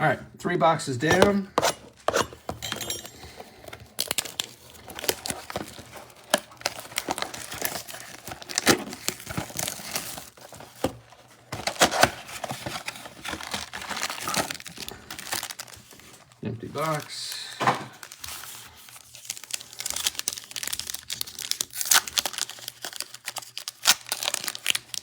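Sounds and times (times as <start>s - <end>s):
wrappers crinkling and tearing: 3.2s - 25.0s.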